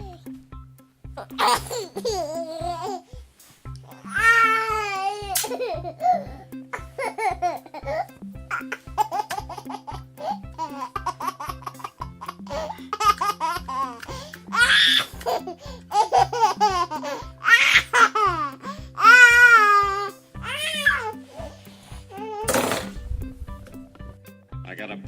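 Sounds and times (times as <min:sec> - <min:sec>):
children's music with beat: 0:00.0 - 0:24.9
baby laughing and giggling: 0:01.2 - 0:03.1, 0:03.9 - 0:22.9.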